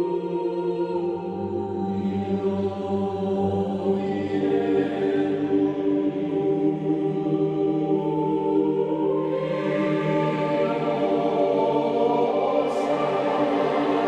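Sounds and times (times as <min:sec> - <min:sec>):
slow choral singing: 0:00.0 - 0:14.0.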